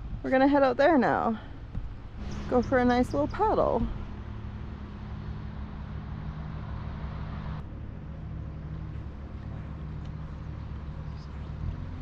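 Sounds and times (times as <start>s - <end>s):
vehicle engine and road hum: 0.0s - 12.0s.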